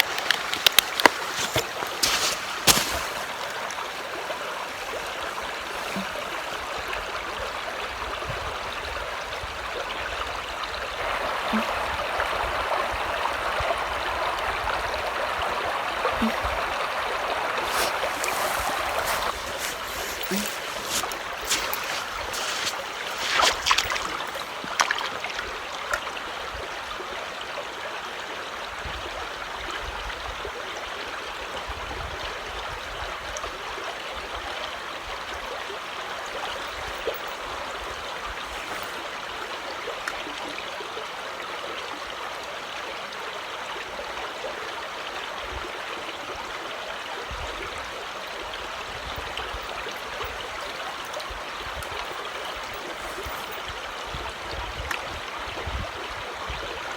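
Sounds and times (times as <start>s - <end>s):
creek water running over rocks: 0.0s - 56.9s.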